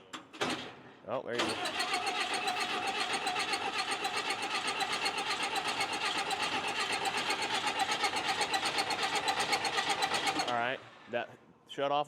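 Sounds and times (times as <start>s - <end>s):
diesel engine cranking: 0.0s - 11.4s.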